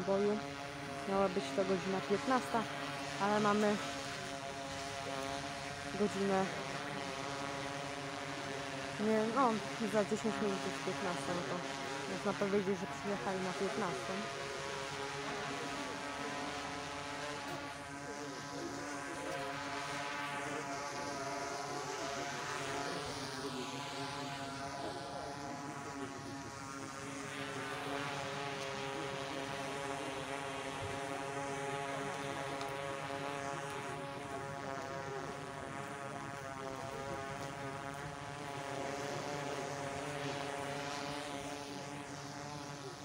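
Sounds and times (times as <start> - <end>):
drone propeller whine: 0.0 - 43.0.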